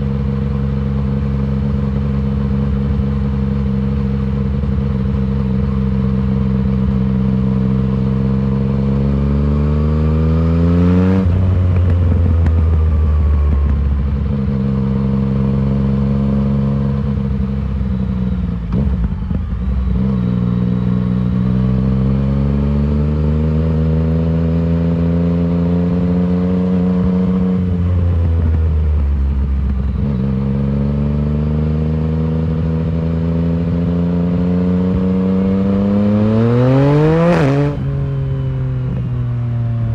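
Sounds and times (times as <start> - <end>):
motorcycle engine accelerating hard: 0.0 - 39.9.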